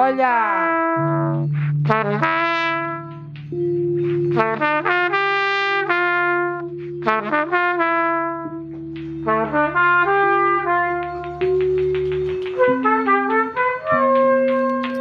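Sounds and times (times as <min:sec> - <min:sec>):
trumpet playing: 0:00.3 - 0:15.0.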